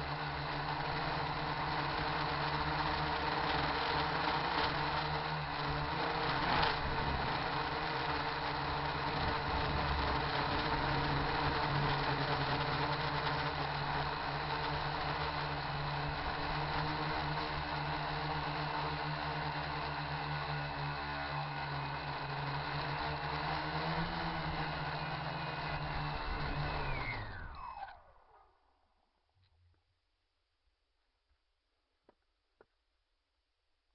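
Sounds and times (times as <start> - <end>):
quadcopter propellers buzzing: 0.0 - 28.4.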